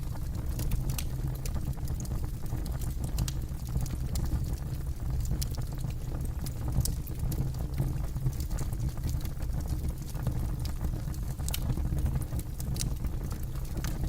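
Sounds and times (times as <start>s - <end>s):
burning wood crackling and popping: 0.0s - 14.0s
low rumble of fire: 0.0s - 14.0s.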